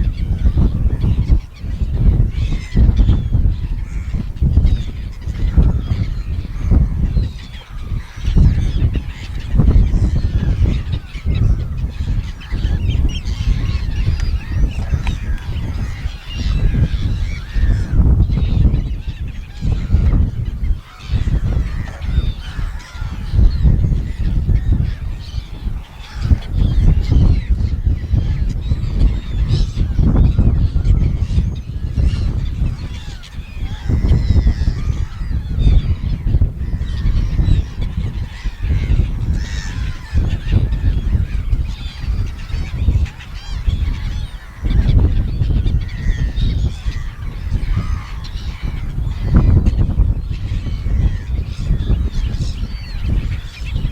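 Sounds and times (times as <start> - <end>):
gulls calling: 0.0 - 53.9
gusty low rumble: 0.0 - 53.9.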